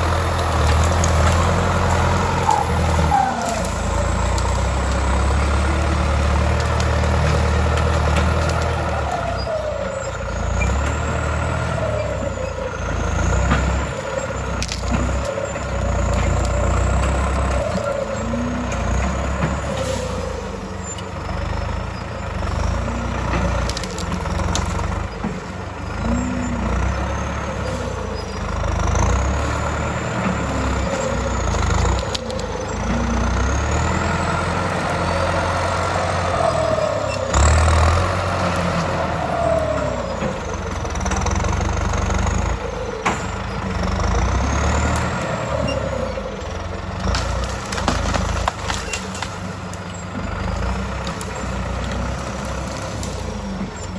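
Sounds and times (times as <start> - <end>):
tractor diesel engine working: 0.0 - 53.9.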